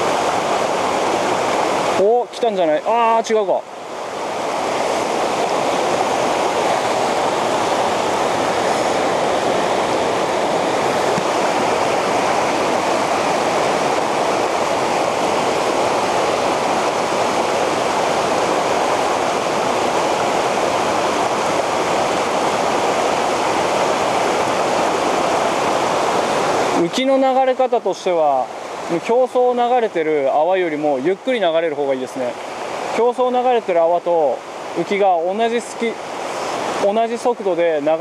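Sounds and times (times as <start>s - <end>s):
river rushing over stones: 0.0s - 38.0s.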